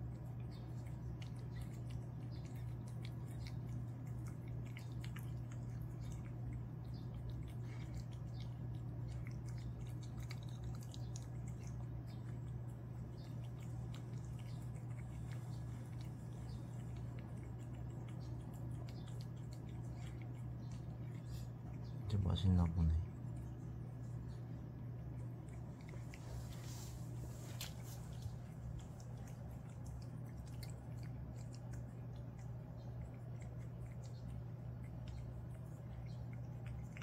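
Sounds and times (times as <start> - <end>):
cat licking and chewing: 0.0 - 37.0
low hum: 0.0 - 37.0.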